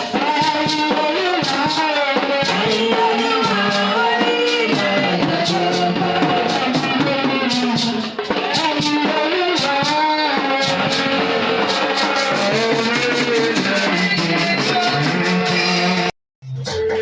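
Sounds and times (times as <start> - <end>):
steady drum beat: 0.0 - 16.1
worship band music: 0.0 - 16.1.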